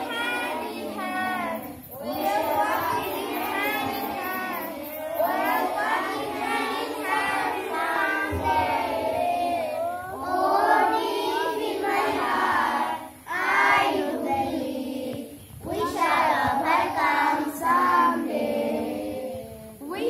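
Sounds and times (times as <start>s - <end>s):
children singing in unison: 0.0s - 20.0s.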